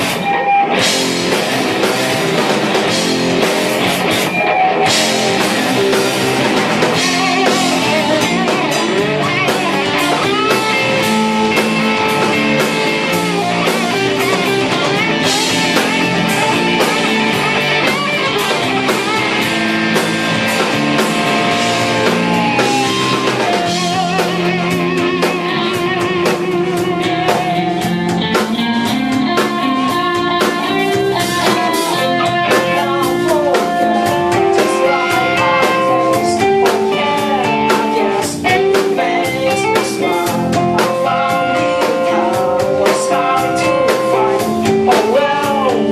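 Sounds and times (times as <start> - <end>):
punk rock band playing live: 0.0 - 45.9.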